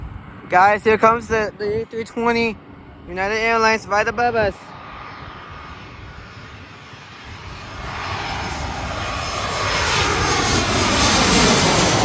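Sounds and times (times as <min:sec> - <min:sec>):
jet airliner engine noise: 0:00.0 - 0:12.0.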